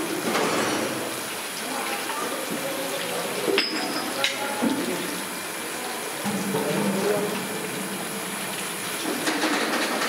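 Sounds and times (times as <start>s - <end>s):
oil sizzling and bubbling: 0.0s - 10.0s.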